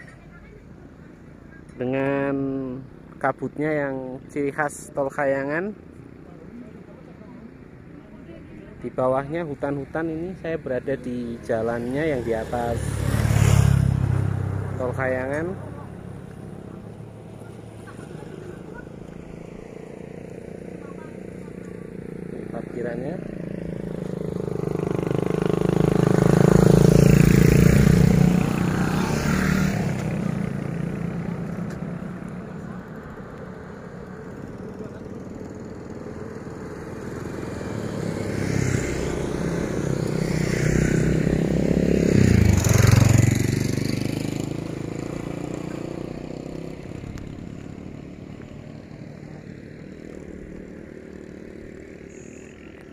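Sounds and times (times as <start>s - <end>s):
motorcycles passing: 0.0s - 52.9s.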